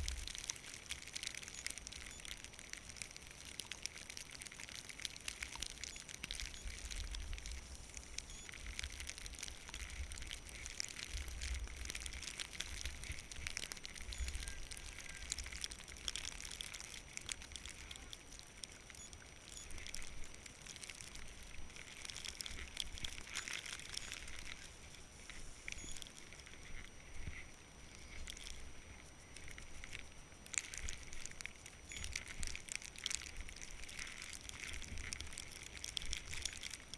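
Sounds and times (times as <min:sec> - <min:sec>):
skis sliding over snow: 0:00.0 - 0:36.9.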